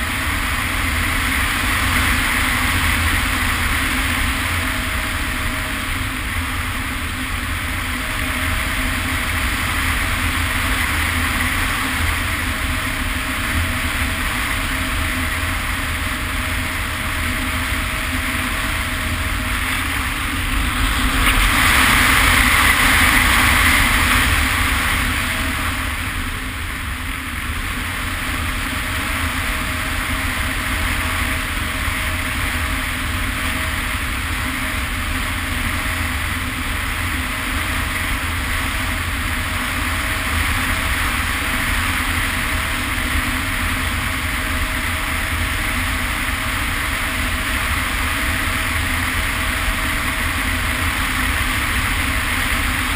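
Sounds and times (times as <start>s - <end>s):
electric motor and propeller: 0.0s - 52.9s
wind rushing over camera: 0.0s - 52.9s.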